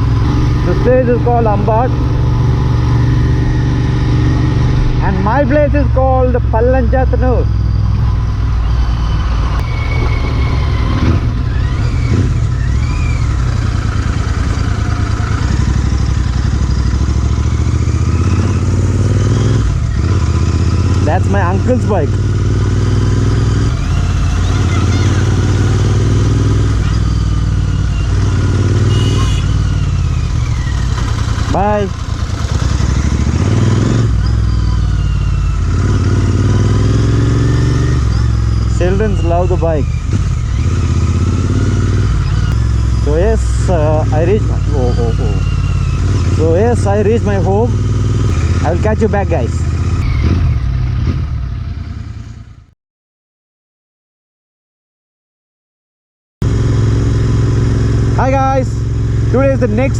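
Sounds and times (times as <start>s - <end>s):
motorcycle engine running: 0.0s - 52.7s, 56.4s - 59.9s.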